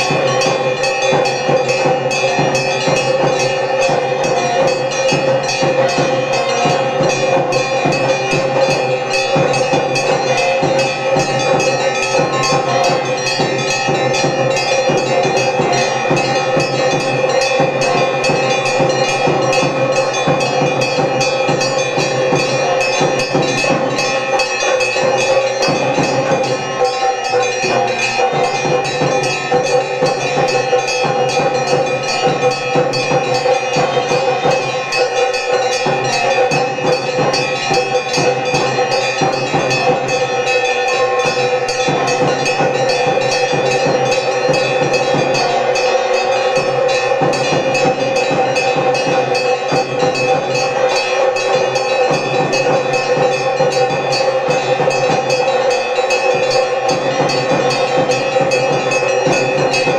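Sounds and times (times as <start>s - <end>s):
temple bells ringing: 0.0s - 59.9s.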